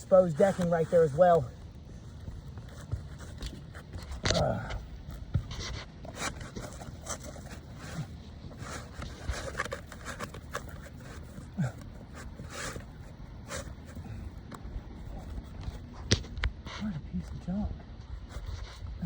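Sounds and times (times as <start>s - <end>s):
scrapes and rustles on shingle roof: 0.0s - 19.0s.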